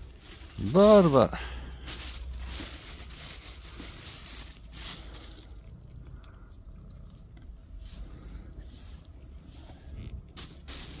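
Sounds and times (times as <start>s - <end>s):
plastic bag rustling: 0.0s - 6.0s, 7.7s - 11.0s.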